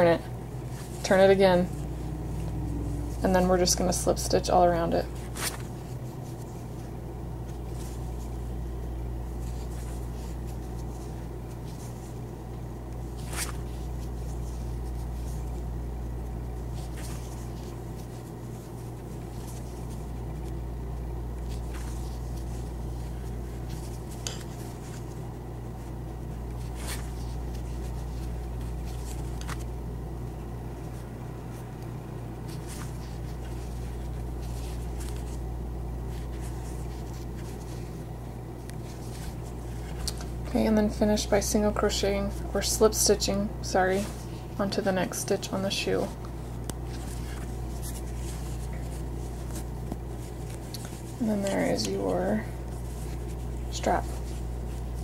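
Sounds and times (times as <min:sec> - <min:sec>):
low room tone hum: 0:00.0 - 0:55.0.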